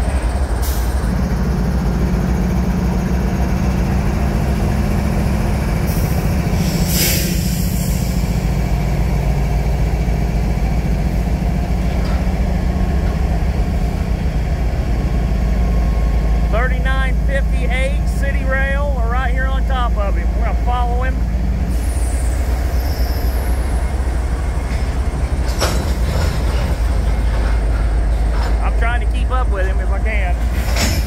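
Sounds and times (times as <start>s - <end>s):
locomotive engine drone: 0.0s - 31.0s.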